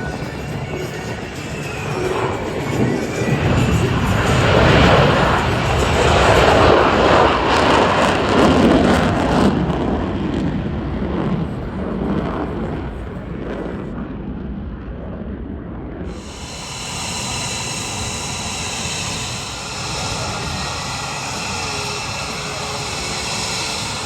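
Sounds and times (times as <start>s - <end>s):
airplane flying past: 0.0s - 13.8s, 16.1s - 24.0s.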